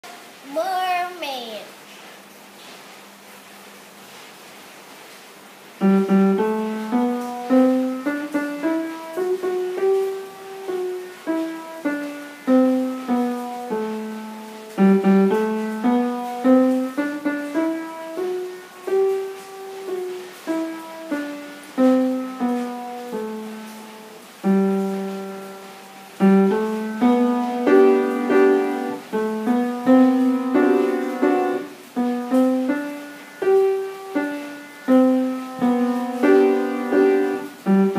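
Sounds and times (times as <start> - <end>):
upright piano playing: 5.8 - 37.9.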